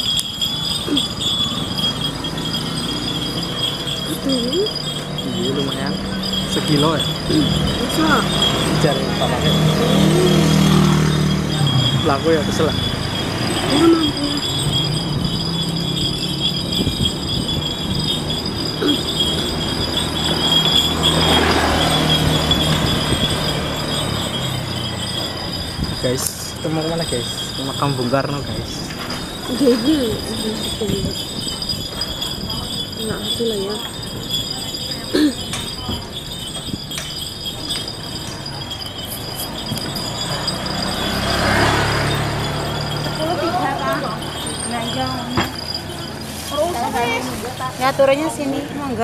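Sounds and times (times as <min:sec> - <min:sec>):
motor scooter passing: 0:00.0 - 0:49.0
rickshaw rattling and jingling: 0:00.0 - 0:49.0.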